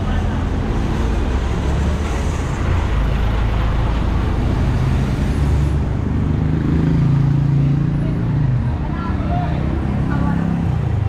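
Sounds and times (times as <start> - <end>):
minibus diesel engine passing: 0.0 - 11.0
street traffic noise: 0.0 - 11.0.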